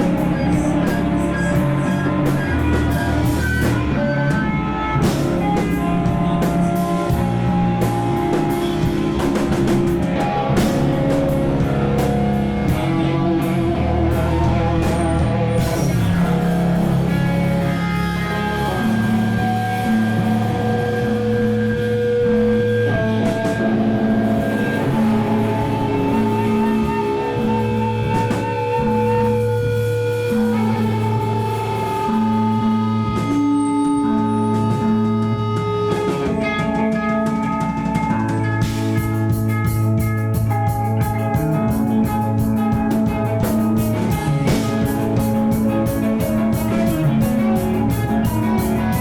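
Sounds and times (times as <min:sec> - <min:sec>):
drum kit and cymbals: 0:00.0 - 0:49.0
electric guitar notes: 0:00.0 - 0:49.0.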